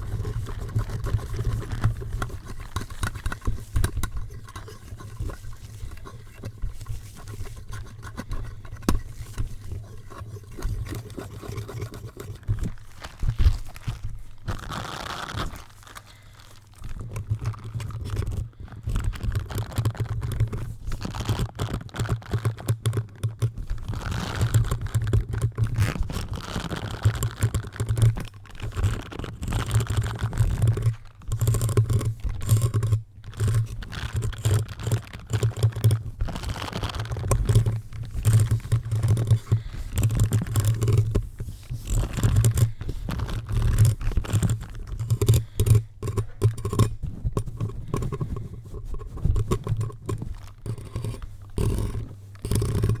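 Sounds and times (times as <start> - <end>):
scratching on a microphone: 0.0 - 53.0.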